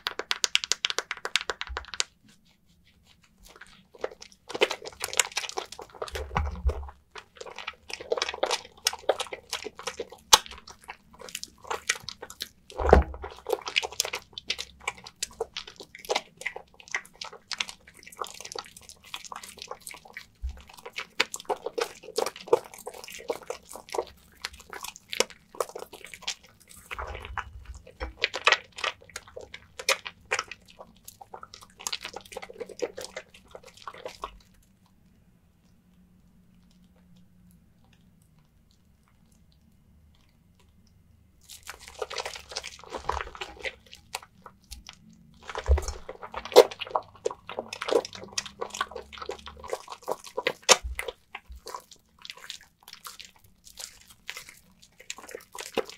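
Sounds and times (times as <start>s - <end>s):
soap lathering foam crackling: 0.0s - 35.2s, 41.4s - 55.9s.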